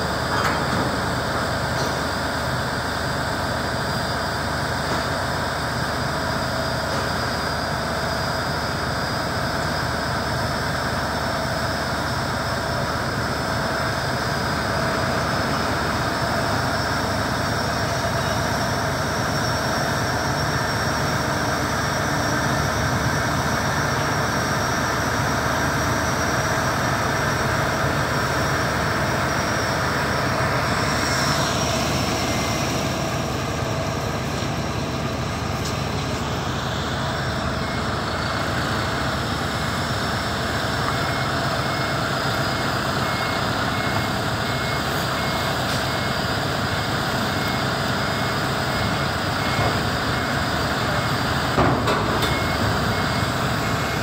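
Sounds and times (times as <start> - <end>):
heavy diesel engines running: 0.0 - 54.0
truck reversing beeper: 0.0 - 54.0.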